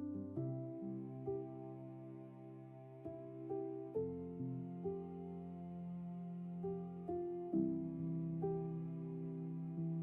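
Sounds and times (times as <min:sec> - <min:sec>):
gentle held keyboard notes: 0:00.0 - 0:10.0.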